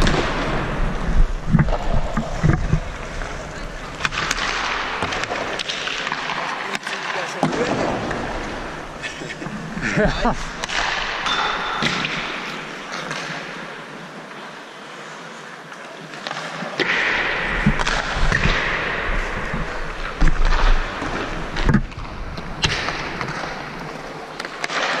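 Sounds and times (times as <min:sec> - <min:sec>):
hockey sticks and pucks clacking: 0:00.0 - 0:09.7, 0:10.4 - 0:25.0.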